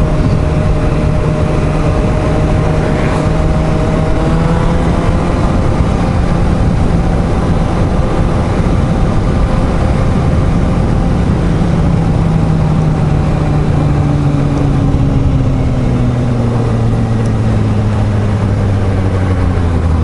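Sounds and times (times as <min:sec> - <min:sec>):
wind rushing: 0:00.0 - 0:19.1
motorcycle engine on board: 0:00.0 - 0:20.0.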